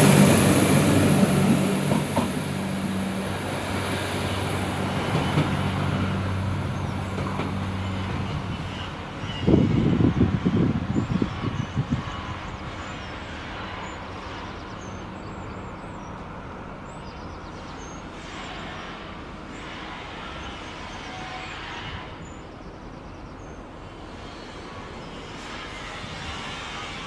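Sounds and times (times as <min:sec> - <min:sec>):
wheels on rail: 0:00.0 - 0:22.6
diesel train engine rumble: 0:00.0 - 0:27.0.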